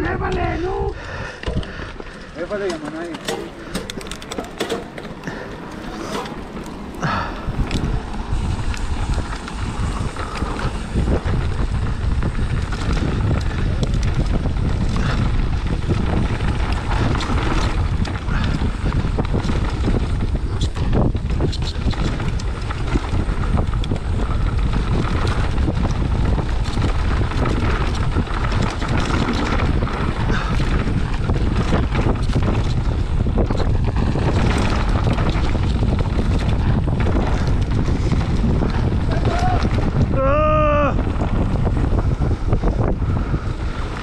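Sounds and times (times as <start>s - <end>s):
wind buffeting microphone: 0.0s - 44.0s
bike knocks and rattles: 1.3s - 44.0s.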